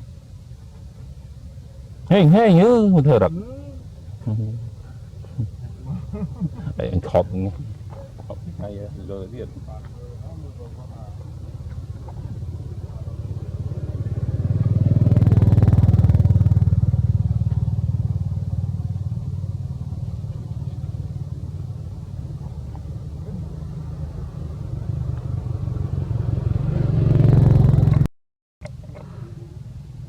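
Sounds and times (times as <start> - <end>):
small engine running: 0.0 - 29.7.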